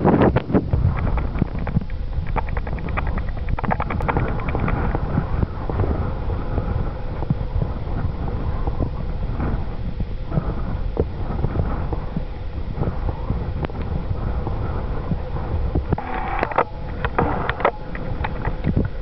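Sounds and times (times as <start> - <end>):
wind buffeting microphone: 0.0 - 19.0
rapid ticking: 0.7 - 19.0
diesel locomotive engine running: 0.8 - 19.0.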